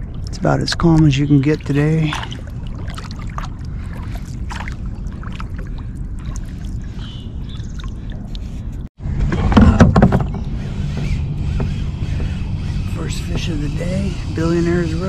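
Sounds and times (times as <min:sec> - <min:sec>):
water gurgling along a hull: 0:00.0 - 0:15.0.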